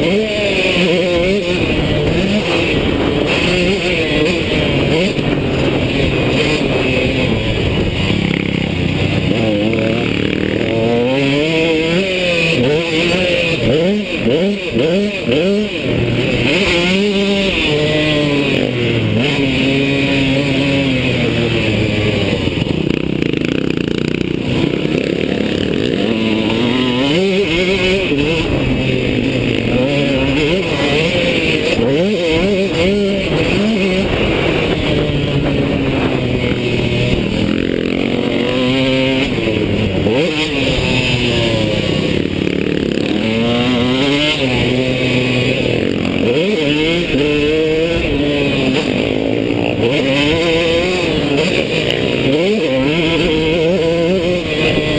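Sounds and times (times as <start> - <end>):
two-stroke motorbike engine revving: 0.0 - 54.9.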